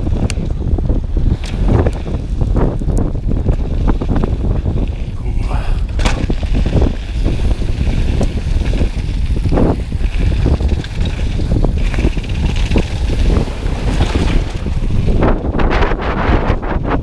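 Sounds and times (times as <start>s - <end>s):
bike rattling and knocking: 0.0s - 5.2s, 5.9s - 17.0s
bike tyres rumbling on gravel: 0.0s - 17.0s
wind buffeting microphone: 0.0s - 17.0s.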